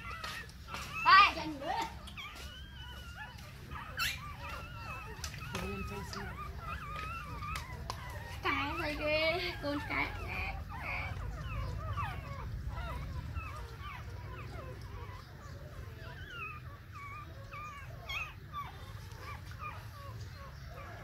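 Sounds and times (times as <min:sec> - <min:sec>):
puppies whimpering and squeaking: 0:00.0 - 0:21.0.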